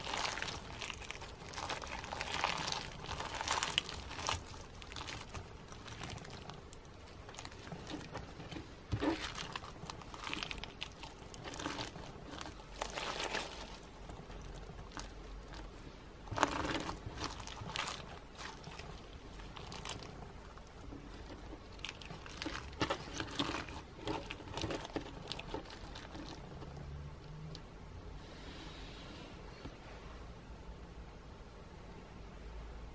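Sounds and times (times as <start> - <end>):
crunchy slime being squeezed: 0.0 - 26.8.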